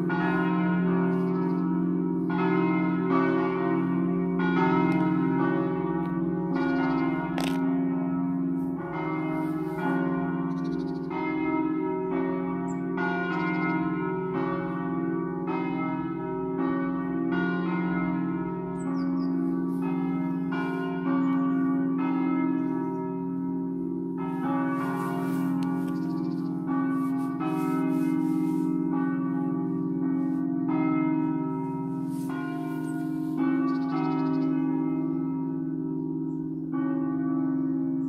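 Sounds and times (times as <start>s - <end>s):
church bells chiming: 0.0s - 38.0s.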